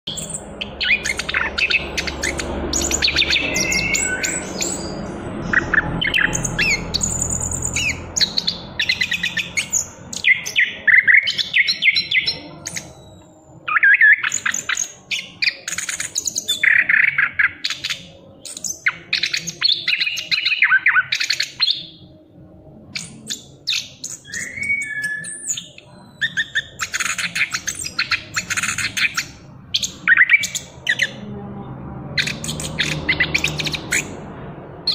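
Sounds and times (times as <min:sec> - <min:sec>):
thrush singing: 0:00.0 - 0:34.9.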